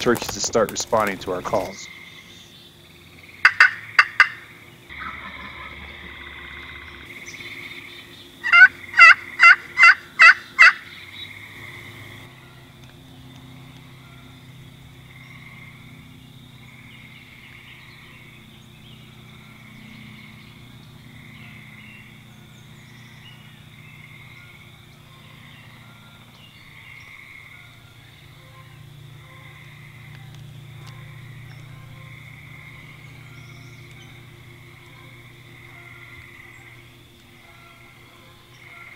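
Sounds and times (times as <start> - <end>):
frogs trilling: 0.0 - 38.9
low steady hum: 0.0 - 38.9.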